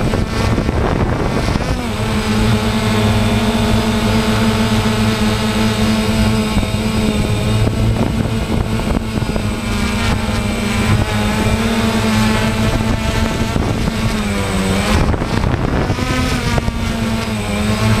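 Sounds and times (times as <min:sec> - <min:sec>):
drone propellers whining: 0:00.0 - 0:18.0
wind on microphone: 0:00.0 - 0:18.0.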